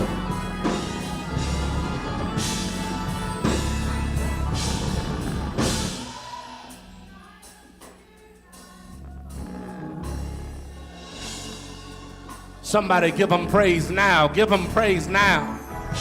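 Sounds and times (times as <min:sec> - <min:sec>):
church band playing: 0:00.0 - 0:07.4, 0:09.3 - 0:16.0
people singing: 0:00.0 - 0:16.0.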